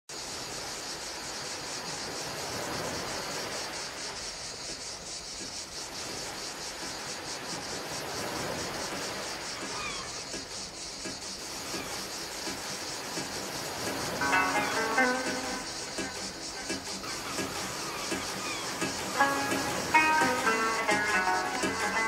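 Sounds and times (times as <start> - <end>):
ambient music hissing texture: 0.1 - 22.0.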